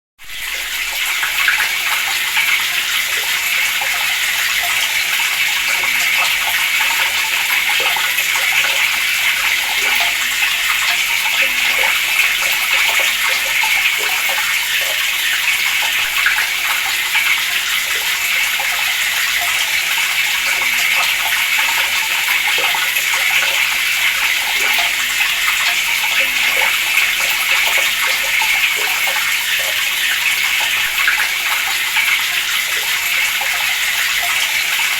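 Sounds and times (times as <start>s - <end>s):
water running from a tap: 0.2s - 34.9s.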